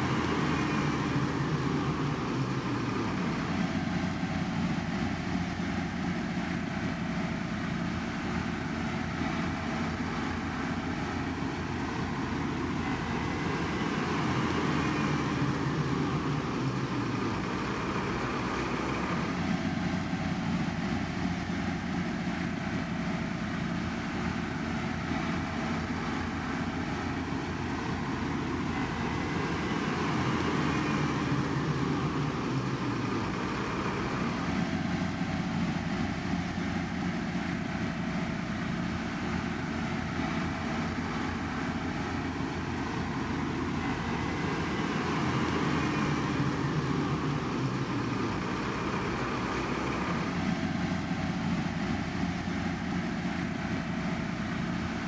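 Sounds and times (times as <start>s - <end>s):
construction machinery engine drone: 0.0s - 55.0s.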